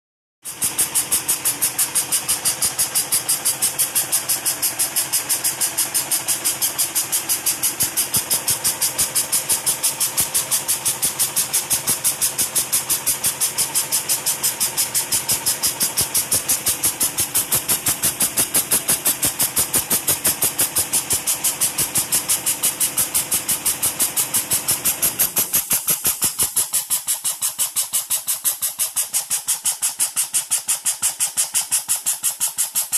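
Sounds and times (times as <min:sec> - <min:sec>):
steam engine puffing: 0:00.5 - 0:32.9.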